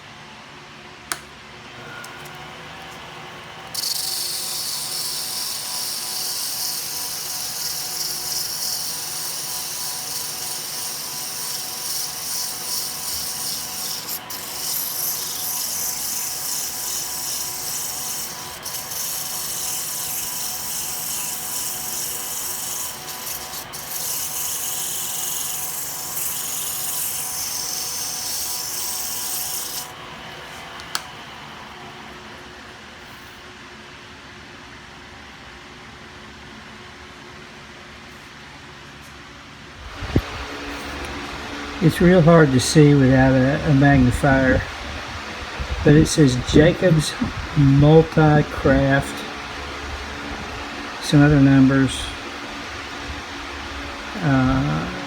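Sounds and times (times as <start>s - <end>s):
shop fan humming: 0.0s - 55.0s.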